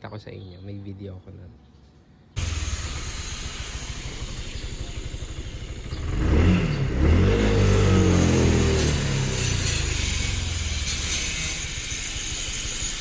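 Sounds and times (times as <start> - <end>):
scooter engine idling and revving: 2.4 - 13.0.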